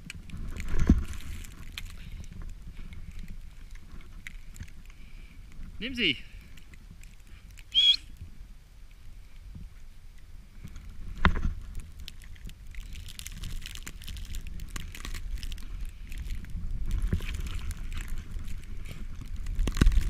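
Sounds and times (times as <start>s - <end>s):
snow crunching: 0.0s - 6.6s, 9.0s - 20.0s
wind rumbling on microphone: 0.0s - 20.0s.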